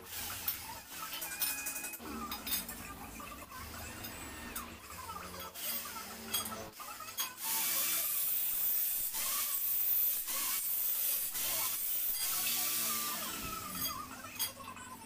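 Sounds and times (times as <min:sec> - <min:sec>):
angle grinder cutting steel: 0:00.0 - 0:14.9.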